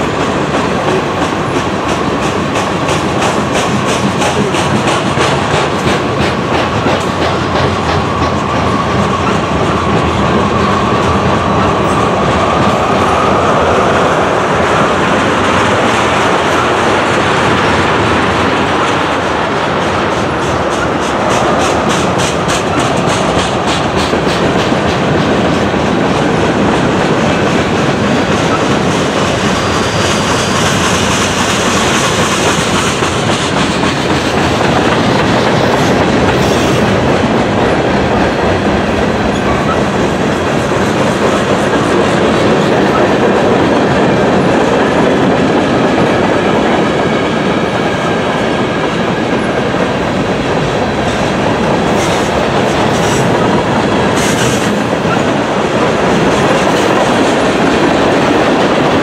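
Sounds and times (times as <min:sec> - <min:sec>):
train running noise: 0:00.0 - 0:59.0
train wheels clickety-clack: 0:00.0 - 0:59.0.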